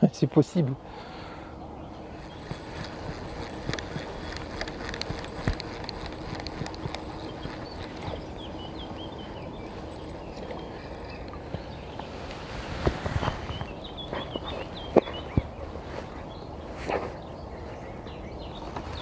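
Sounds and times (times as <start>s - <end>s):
small bird chirping: 1.6s - 12.3s, 13.2s - 19.0s.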